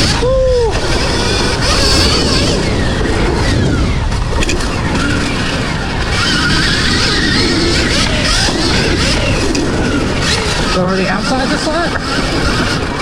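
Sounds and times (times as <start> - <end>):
electric motor whine: 0.0 - 13.0
tyres on dirt: 0.0 - 13.0
wind noise: 0.0 - 13.0.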